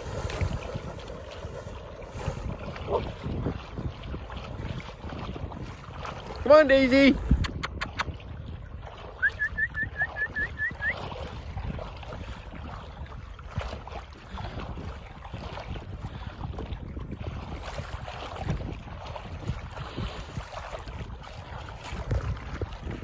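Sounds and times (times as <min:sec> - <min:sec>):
water splashing and lapping: 0:00.0 - 0:23.0
wind on the microphone: 0:00.0 - 0:23.0.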